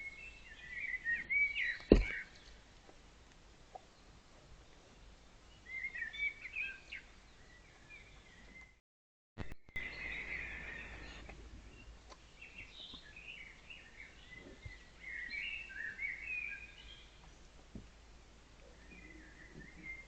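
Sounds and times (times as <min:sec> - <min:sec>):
songbirds singing and chirping: 0:00.0 - 0:08.8, 0:09.4 - 0:20.0.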